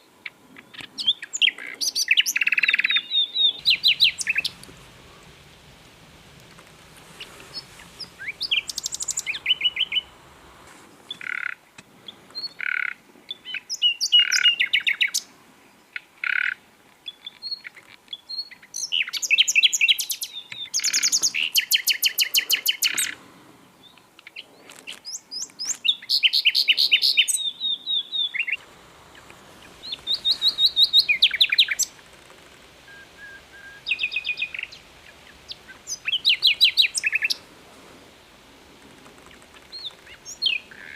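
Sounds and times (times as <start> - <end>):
nightingale singing: 0.0 - 37.5, 38.1 - 40.9.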